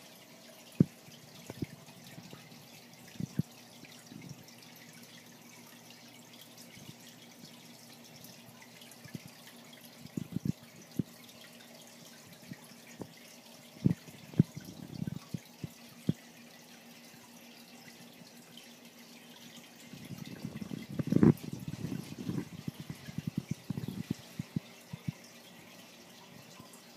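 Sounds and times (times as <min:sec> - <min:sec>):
faint steady hum: 0:00.0 - 0:26.9
soft water drips and plops: 0:00.0 - 0:26.9
water trickling in aquarium: 0:00.0 - 0:26.9.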